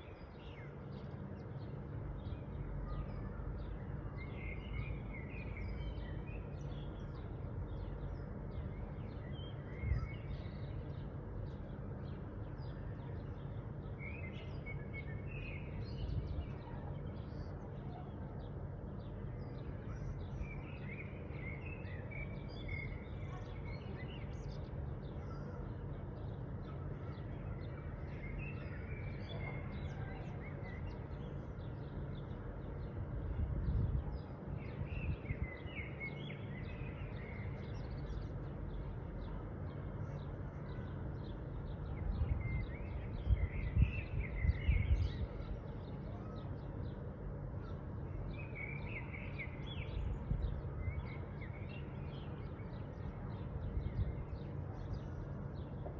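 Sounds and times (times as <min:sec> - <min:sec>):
small birds chirping: 0:00.0 - 0:55.9
steady low background noise: 0:00.0 - 0:55.9.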